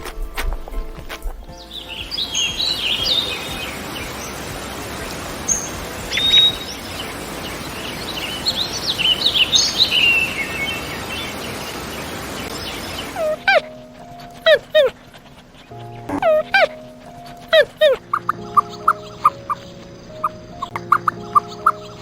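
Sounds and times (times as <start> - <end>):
outdoor background noise: 0.0 - 22.0
songbirds chirping: 0.7 - 22.0.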